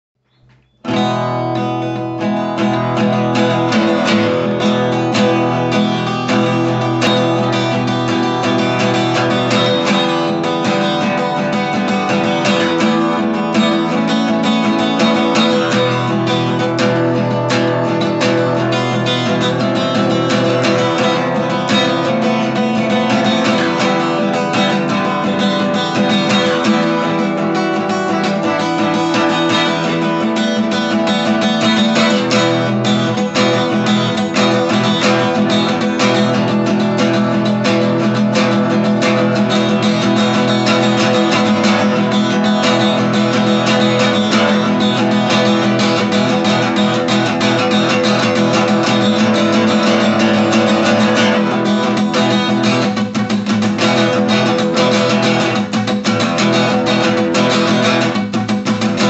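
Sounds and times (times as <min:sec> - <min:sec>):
acoustic guitar strummed: 0:00.2 - 0:59.0.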